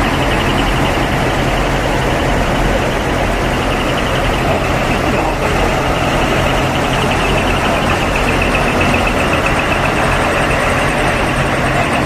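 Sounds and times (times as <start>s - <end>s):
diesel truck engines running: 0.0s - 12.0s
rapid pulsing high-pitched tone: 0.0s - 12.0s
vehicle noise: 0.0s - 12.0s.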